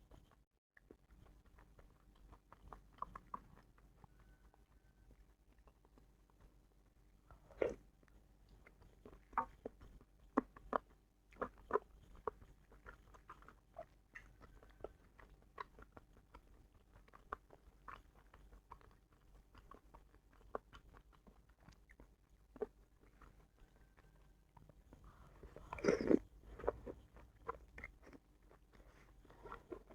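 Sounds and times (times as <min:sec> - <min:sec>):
chewing with mouth clicks: 0:00.0 - 0:29.9.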